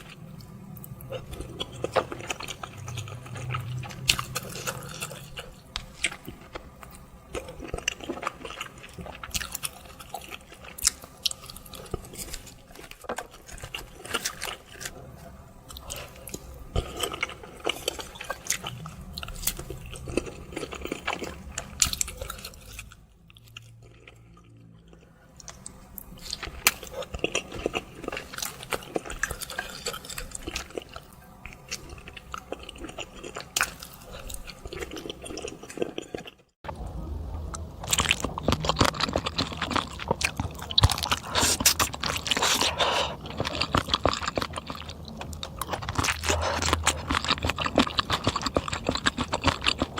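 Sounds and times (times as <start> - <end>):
chewing and biting with smacks: 0.0 - 15.1, 15.7 - 36.6, 37.5 - 49.9.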